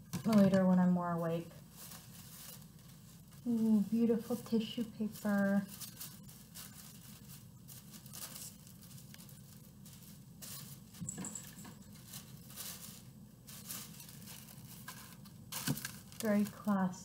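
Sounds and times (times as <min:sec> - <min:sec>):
tissue paper rustling: 0:00.3 - 0:17.0.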